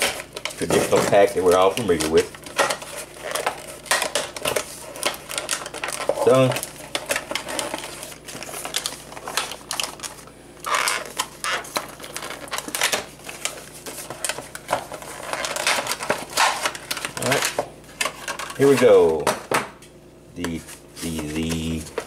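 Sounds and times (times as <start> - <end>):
plastic blister pack crinkling: 0.0 - 19.2
plastic rustling: 0.0 - 19.4.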